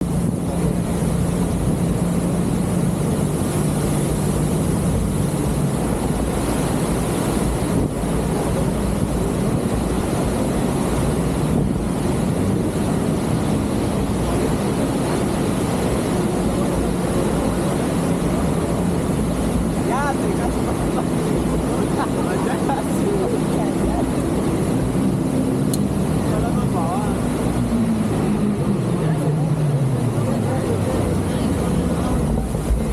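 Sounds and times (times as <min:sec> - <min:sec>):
boat engine running: 0:00.0 - 0:32.9
rush of wind and water: 0:00.0 - 0:32.9.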